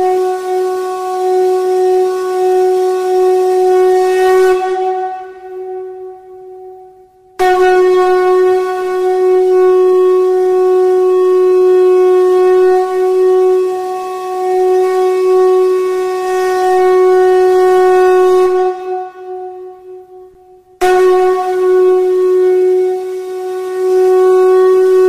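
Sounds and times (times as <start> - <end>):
steady horn-like tone: 0.0 - 25.0.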